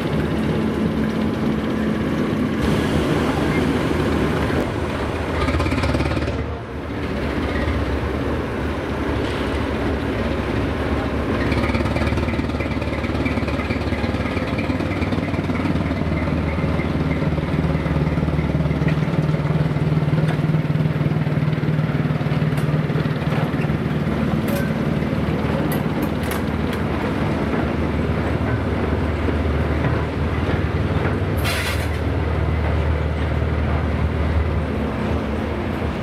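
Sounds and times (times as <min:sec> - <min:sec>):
diesel locomotive engine running: 0:00.0 - 0:36.0.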